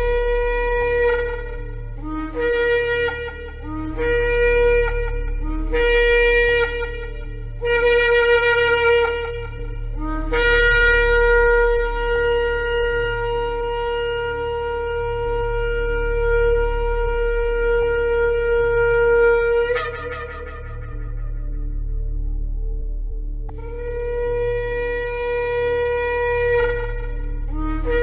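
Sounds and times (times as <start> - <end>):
shofar blasts: 0.0 - 22.8, 23.5 - 28.0
steady low hum: 0.0 - 28.0.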